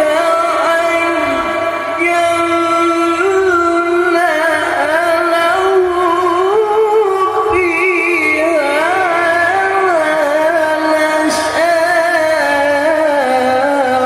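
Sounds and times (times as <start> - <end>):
man reciting in melodic chant: 0.0 - 14.0.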